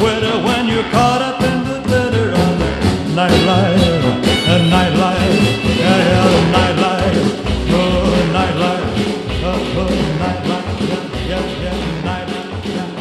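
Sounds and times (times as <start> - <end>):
upbeat rock and roll song: 0.0 - 13.0.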